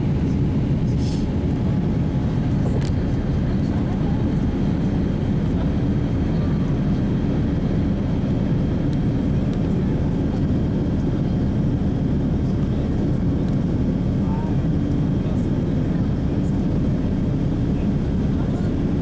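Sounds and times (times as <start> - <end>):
jet engines rumbling in cabin: 0.0 - 19.0.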